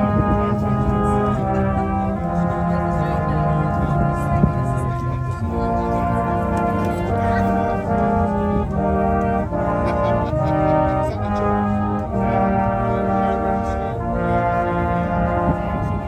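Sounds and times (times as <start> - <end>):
brass band playing slow tune: 0.0 - 16.0.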